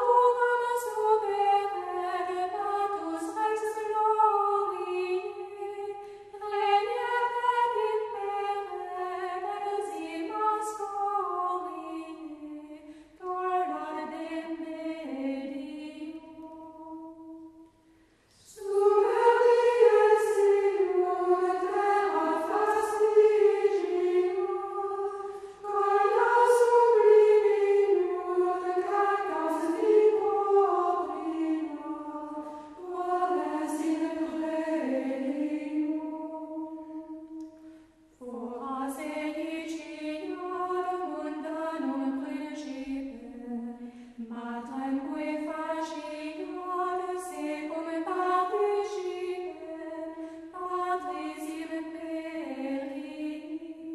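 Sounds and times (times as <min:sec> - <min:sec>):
choir singing unaccompanied: 0:00.0 - 0:17.6, 0:18.4 - 0:37.6, 0:38.2 - 0:53.9.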